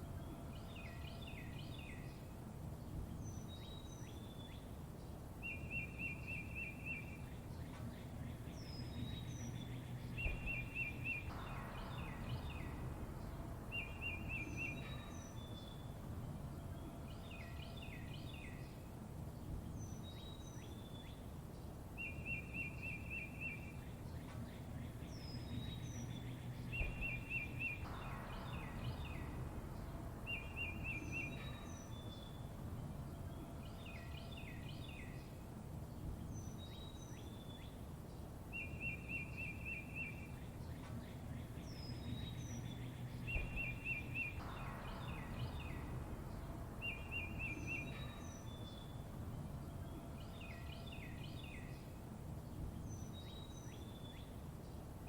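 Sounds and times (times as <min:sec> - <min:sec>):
low background rumble: 0:00.0 - 0:55.0
songbirds chirping: 0:00.0 - 0:55.0.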